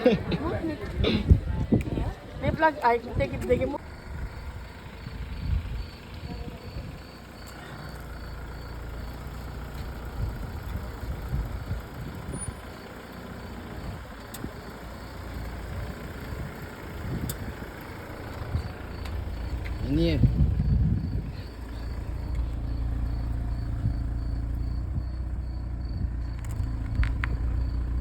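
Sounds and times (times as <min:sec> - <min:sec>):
vehicle engine and road rumble: 0:00.0 - 0:28.0.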